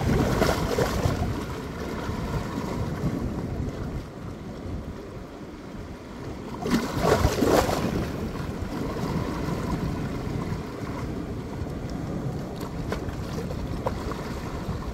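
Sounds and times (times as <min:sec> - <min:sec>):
waves washing over rocks: 0:00.0 - 0:14.9.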